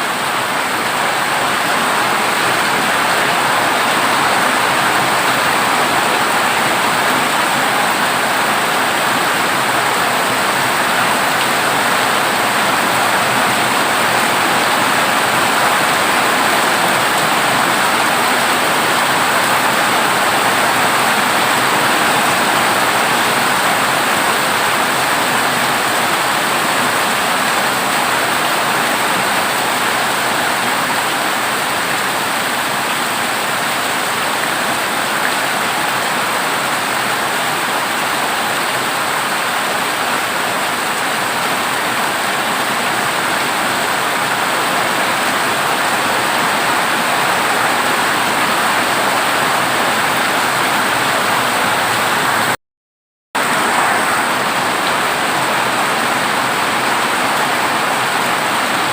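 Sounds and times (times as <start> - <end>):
heavy rain on a metal roof: 0.0 - 52.6, 53.4 - 58.9.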